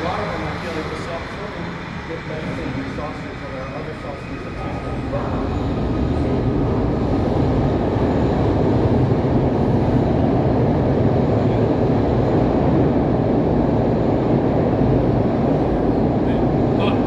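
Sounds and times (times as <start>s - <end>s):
subway train wheels on rail: 0.0s - 17.0s.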